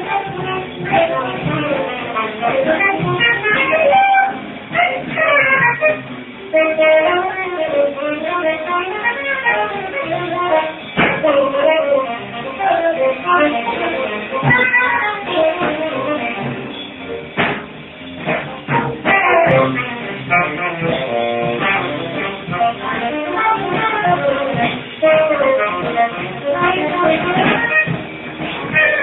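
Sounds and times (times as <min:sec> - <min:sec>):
sharp drum hits: 0:00.0 - 0:07.4, 0:09.4 - 0:29.0
jazz combo playing: 0:00.0 - 0:29.0.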